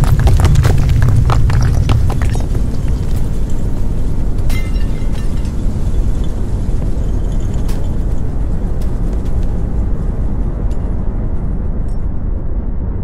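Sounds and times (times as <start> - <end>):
building rumbling in earthquake: 0.0 - 13.0.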